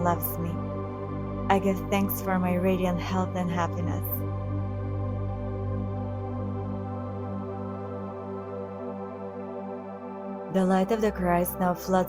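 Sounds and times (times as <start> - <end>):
ambient synthesizer drone: 0.0 - 12.0.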